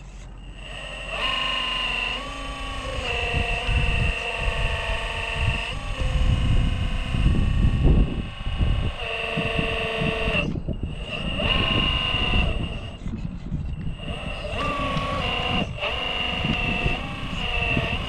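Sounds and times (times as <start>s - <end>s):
electric motor whining: 0.0s - 18.0s
wind buffeting microphone: 1.8s - 18.0s.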